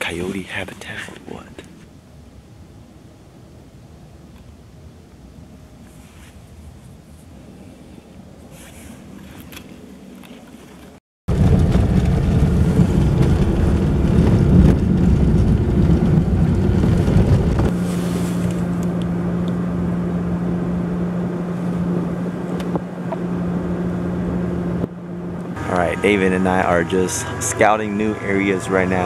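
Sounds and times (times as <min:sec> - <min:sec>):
faint wind: 0:00.0 - 0:29.0
vehicle engine and tyres rumbling: 0:00.0 - 0:29.0.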